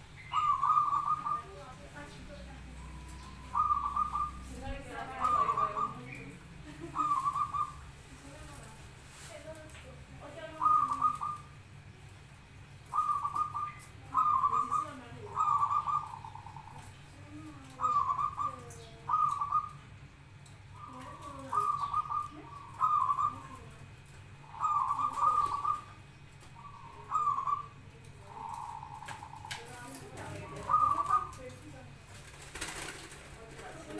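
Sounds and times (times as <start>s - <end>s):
doves cooing: 0.0s - 33.9s.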